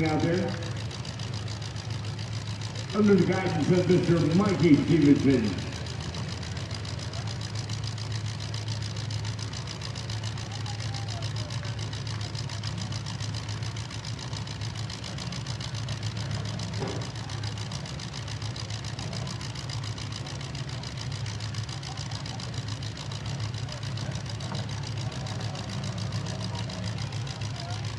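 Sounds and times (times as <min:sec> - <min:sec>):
car engines idling: 0:00.0 - 0:27.9.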